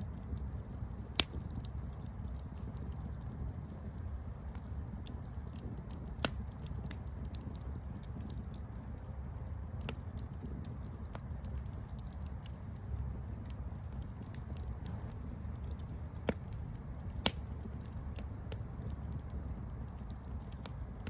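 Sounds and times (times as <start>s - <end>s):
burning wood crackling and popping: 0.0s - 21.0s
campfire roaring: 0.0s - 21.0s.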